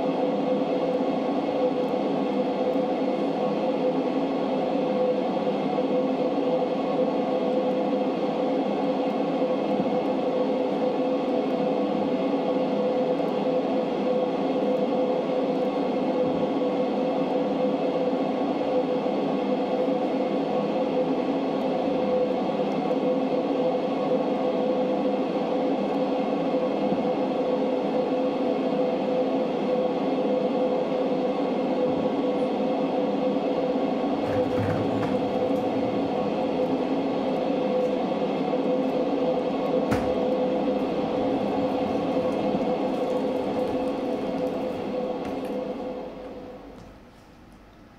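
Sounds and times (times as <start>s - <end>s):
ambient electronic drone: 0.0s - 46.8s.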